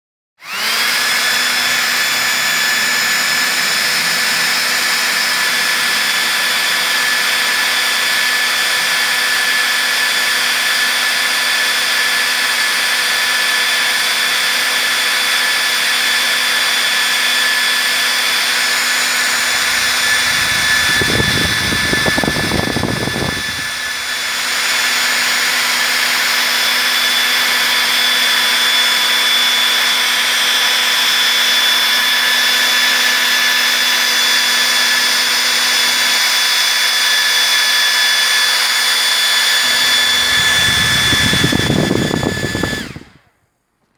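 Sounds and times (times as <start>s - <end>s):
hair dryer running: 0.4s - 43.3s.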